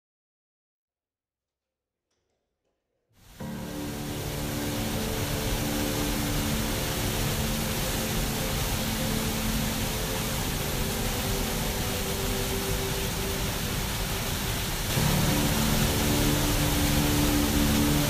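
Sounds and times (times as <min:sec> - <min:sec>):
river rapids rushing: 0:03.3 - 0:18.0
soft music chords: 0:03.3 - 0:18.0.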